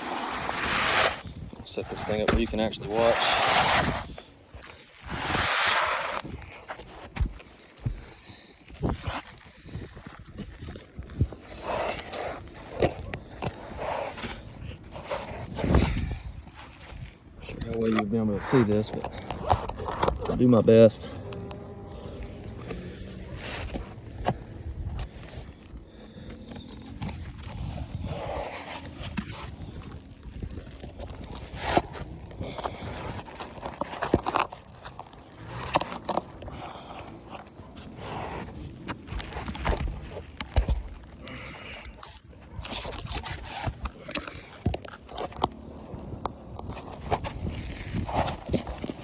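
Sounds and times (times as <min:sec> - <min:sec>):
scraping of roof shingles: 0:00.0 - 0:49.0.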